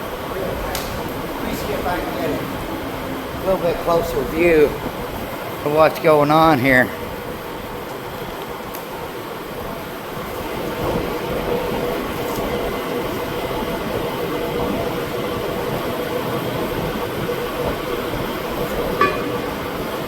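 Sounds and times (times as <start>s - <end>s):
fan blowing: 0.0s - 20.0s.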